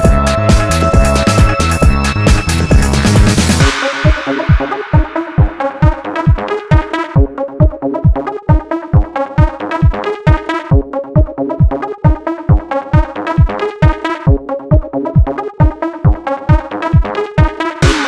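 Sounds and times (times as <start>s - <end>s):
fast kick drum beat: 0.0s - 18.0s
synthesizer chords: 0.0s - 18.0s.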